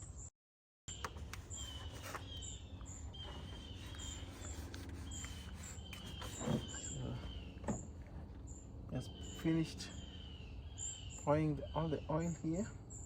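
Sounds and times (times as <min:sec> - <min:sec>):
birds chirping: 0:00.9 - 0:13.0
low outdoor rumble: 0:00.9 - 0:13.0.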